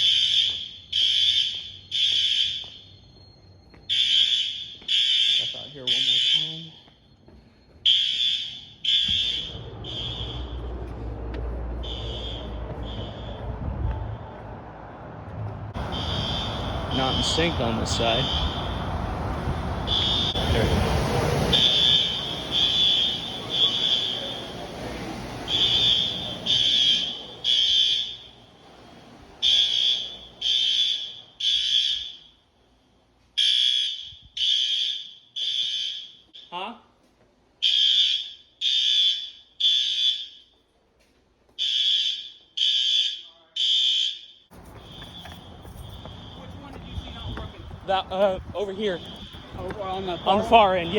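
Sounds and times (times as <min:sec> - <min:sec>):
fire alarm horn blasts: 0:00.0 - 0:07.0, 0:07.8 - 0:10.8, 0:11.8 - 0:14.4, 0:15.8 - 0:32.5, 0:33.4 - 0:36.6, 0:37.6 - 0:40.6, 0:41.6 - 0:50.9.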